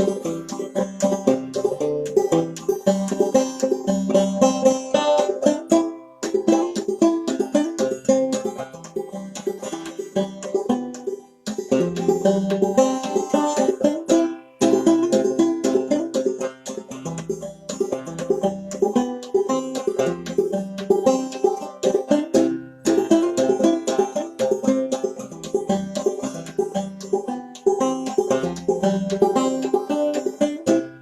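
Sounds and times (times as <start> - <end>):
banjo plucked notes: 0.0 - 31.0.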